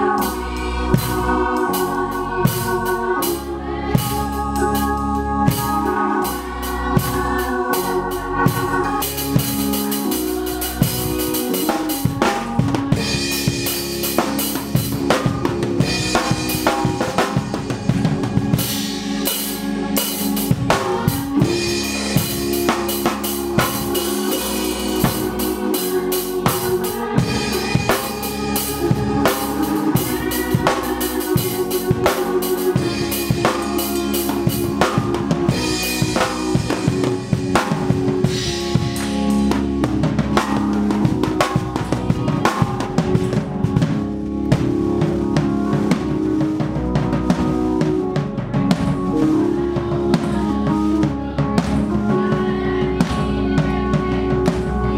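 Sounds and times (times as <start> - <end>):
drum kit playing: 0.0 - 54.9
organ chords: 0.0 - 54.9.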